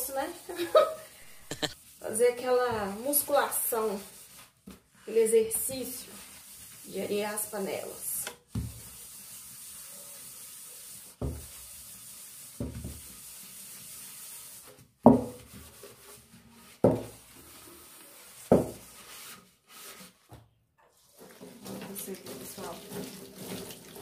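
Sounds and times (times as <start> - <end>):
sponge scouring a metal pan: 1.8 - 20.2, 21.3 - 24.0.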